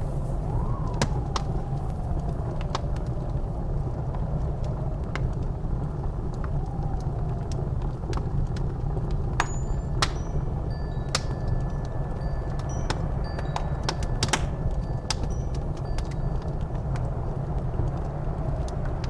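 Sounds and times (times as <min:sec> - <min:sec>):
blizzard wind rumble: 0:00.0 - 0:19.0
faint wind whistle: 0:00.0 - 0:19.0
wood fire crackling and popping: 0:00.0 - 0:19.0.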